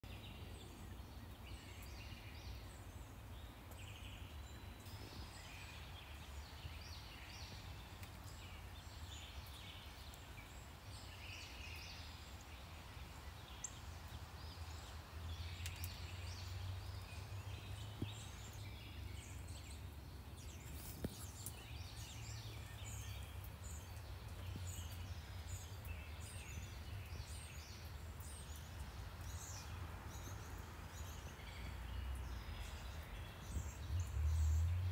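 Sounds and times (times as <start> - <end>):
distant traffic rumble: 0.1 - 34.9.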